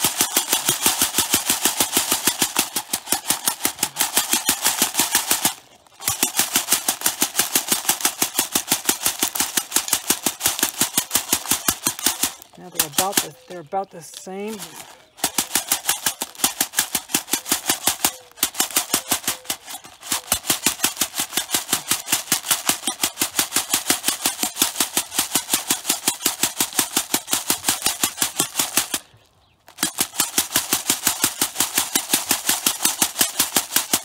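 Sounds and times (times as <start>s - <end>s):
bottles of granules rattling: 0.0s - 29.1s.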